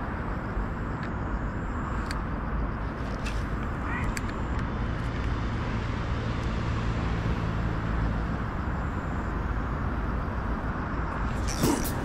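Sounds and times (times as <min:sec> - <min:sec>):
road traffic rumble: 0:00.0 - 0:12.0
vehicle engine hum: 0:00.0 - 0:12.0.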